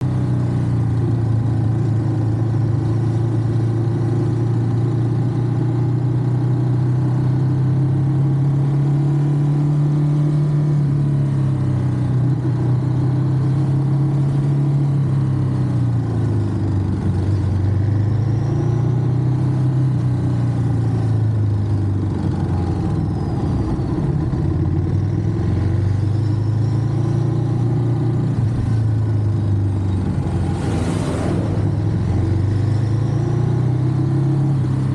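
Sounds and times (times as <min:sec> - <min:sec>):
motorcycle engine revving: 0:01.3 - 0:34.9.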